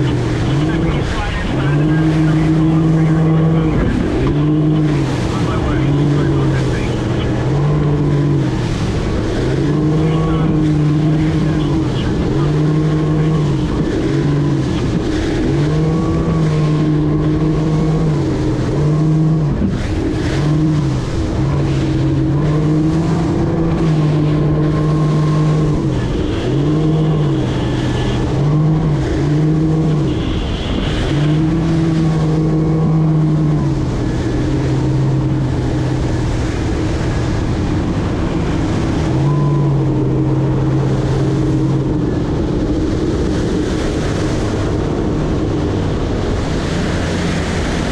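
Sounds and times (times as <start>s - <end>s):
outboard boat engine: 0.0s - 47.9s
steady rushing noise: 0.0s - 47.9s.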